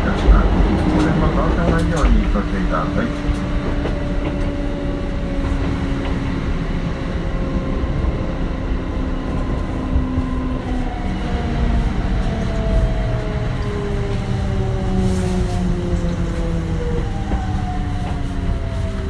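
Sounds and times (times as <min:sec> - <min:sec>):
train inverter whine: 0:00.0 - 0:19.0
wheel and rail rumble: 0:00.0 - 0:19.0.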